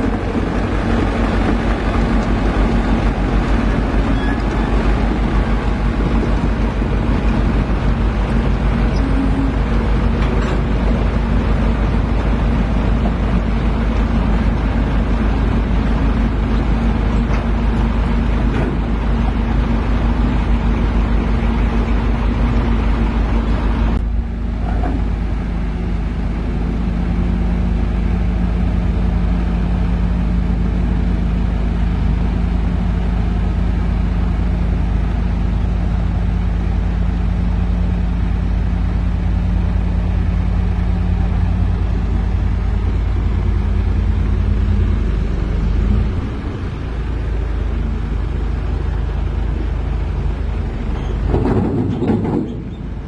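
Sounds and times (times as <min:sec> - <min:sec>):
diesel engine running: 0:00.0 - 0:53.0
low hum: 0:00.0 - 0:53.0.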